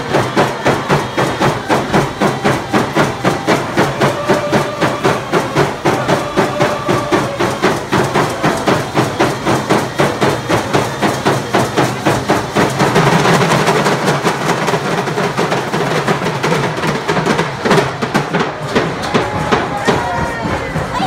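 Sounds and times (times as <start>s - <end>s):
hand drums beating fast rhythm: 0.0s - 21.0s.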